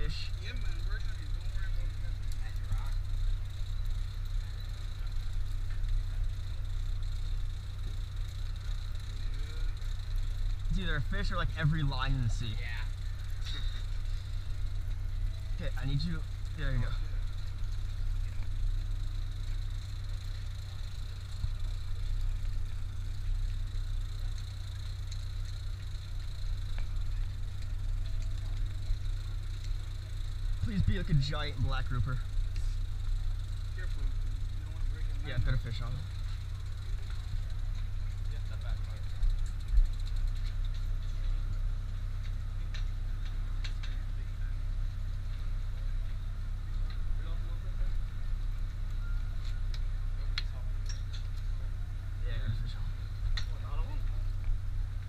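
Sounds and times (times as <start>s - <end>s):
boat engine idling: 0.0s - 55.0s.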